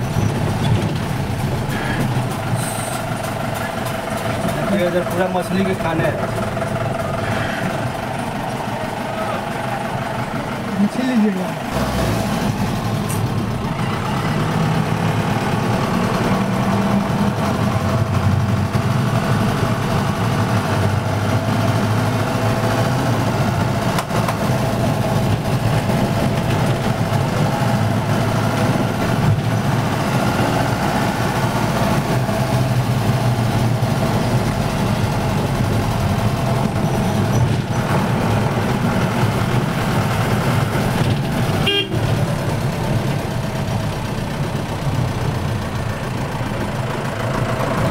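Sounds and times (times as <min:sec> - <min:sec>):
road noise: 0:00.0 - 0:47.9
vehicle engine: 0:00.0 - 0:47.9.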